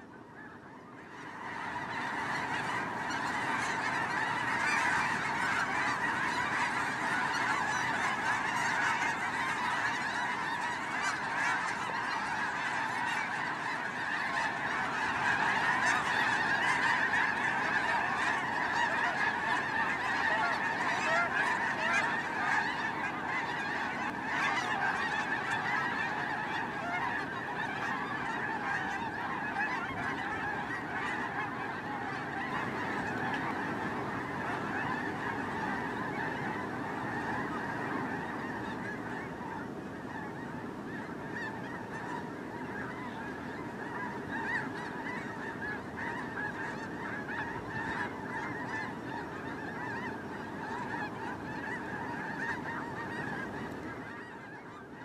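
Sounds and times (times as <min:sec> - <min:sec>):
snow geese honking: 0:00.0 - 0:55.0.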